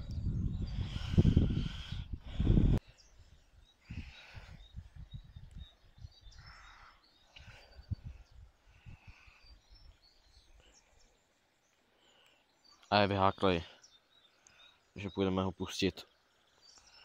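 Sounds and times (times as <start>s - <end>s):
faint bird chirps: 2.8s - 17.0s.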